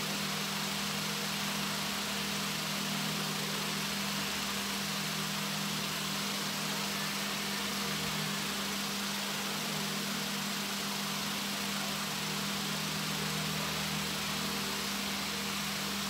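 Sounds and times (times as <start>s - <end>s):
even hiss: 0.0s - 16.0s.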